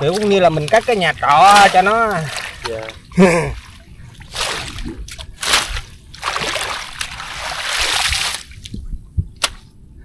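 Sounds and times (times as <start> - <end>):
water splashing and sloshing: 0.0 - 9.8.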